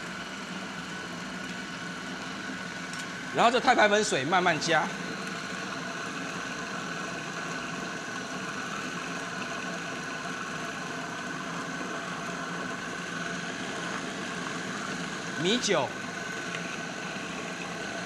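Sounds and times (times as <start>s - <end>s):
food processor motor running: 0.0s - 18.0s.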